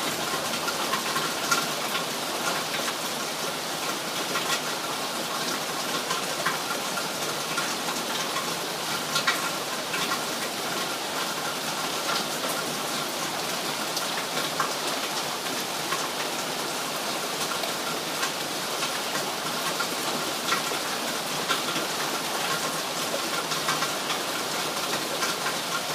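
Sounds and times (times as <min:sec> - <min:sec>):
raindrops ticking on hard surfaces: 0:00.0 - 0:25.9
steady rain falling: 0:00.0 - 0:25.9.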